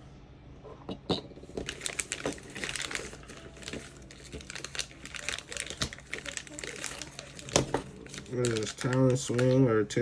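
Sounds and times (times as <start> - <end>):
plastic packaging crinkling: 1.4 - 10.0.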